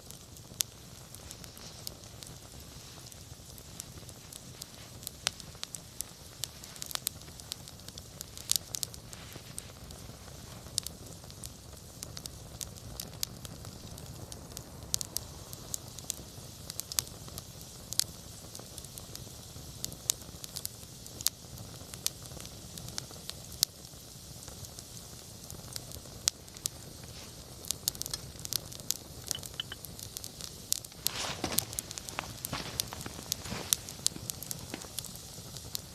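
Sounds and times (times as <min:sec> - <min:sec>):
burning wood crackling: 0:00.0 - 0:35.9
low rumble of flames: 0:00.0 - 0:35.9.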